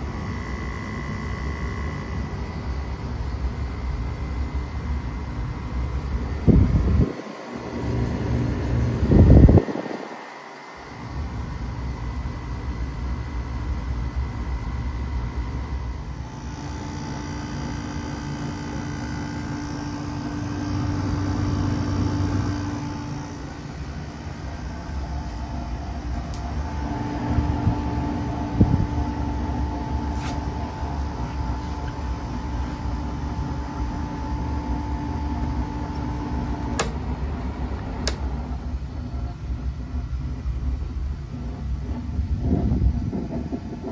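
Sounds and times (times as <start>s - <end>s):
window air conditioner humming: 0.0s - 43.9s.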